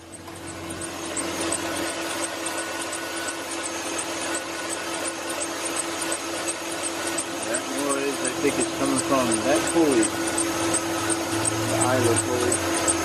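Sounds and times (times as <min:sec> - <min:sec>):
belt squeaking chirps: 0:00.0 - 0:13.0
engine running: 0:00.0 - 0:13.0.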